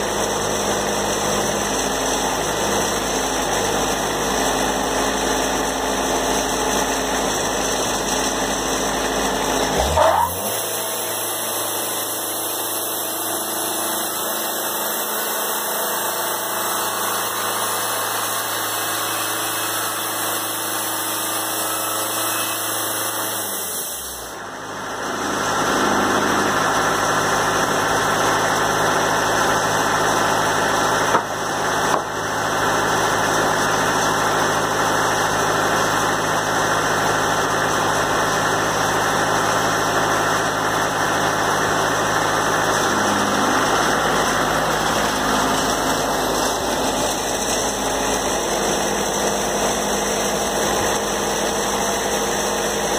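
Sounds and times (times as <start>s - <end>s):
sawmill engine running: 0.0s - 52.9s.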